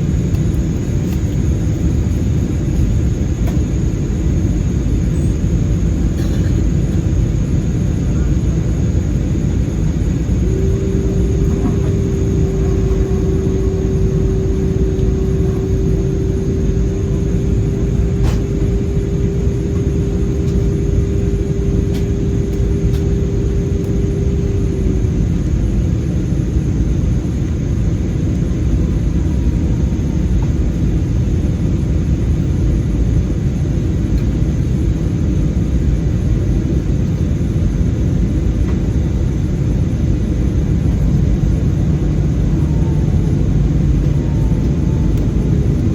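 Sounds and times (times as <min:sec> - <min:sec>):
low rumble of engines and airflow: 0:00.0 - 0:45.9
steady hum: 0:00.0 - 0:45.9.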